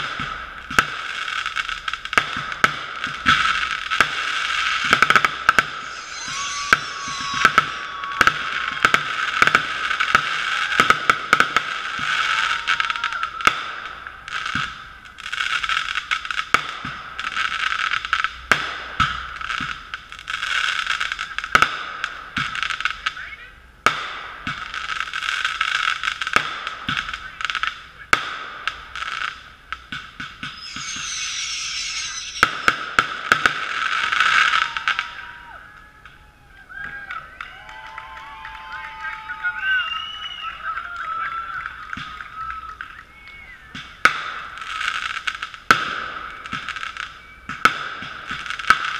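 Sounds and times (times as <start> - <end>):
muffled fireworks bursting: 0.0 - 48.9.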